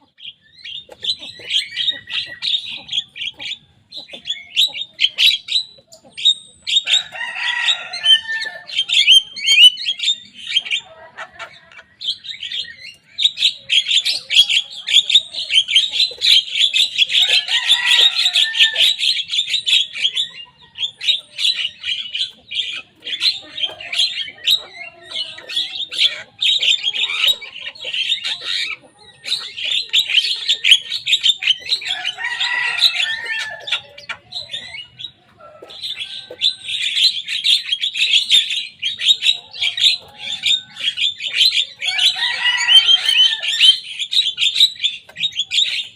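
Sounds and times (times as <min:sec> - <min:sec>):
bird chattering chirps and whistles: 0:00.0 - 0:45.9.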